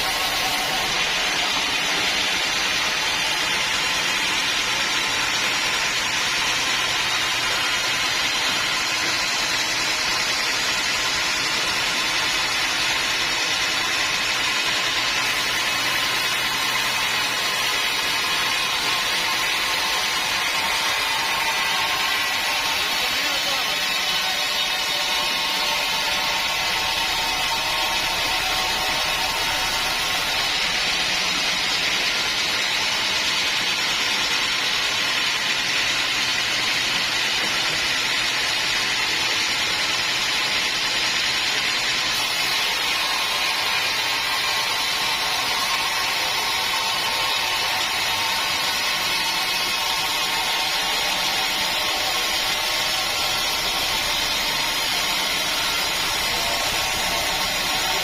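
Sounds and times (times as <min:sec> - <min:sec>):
saw cutting through log: 0:00.0 - 0:58.0.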